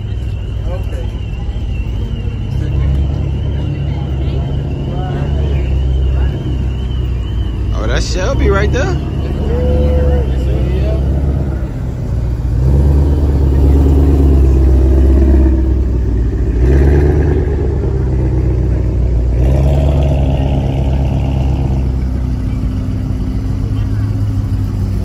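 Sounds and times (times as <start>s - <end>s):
car exhaust rumble: 0.0s - 25.0s
second car engine: 0.0s - 25.0s.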